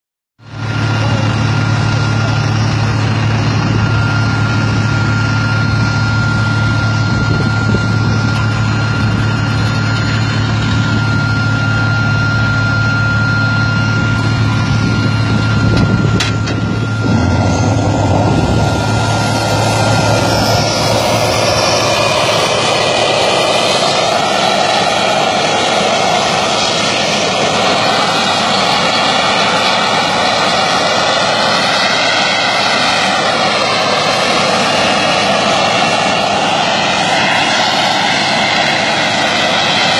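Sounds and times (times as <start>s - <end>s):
jet engine roar: 0.4s - 39.9s
low hum: 0.4s - 39.9s
broad rushing noise: 0.5s - 39.9s
thin high whine: 0.5s - 39.9s.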